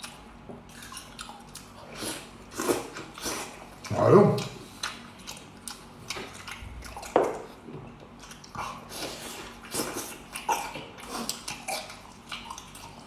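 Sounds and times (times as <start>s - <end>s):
person chewing and smacking: 0.0s - 13.0s.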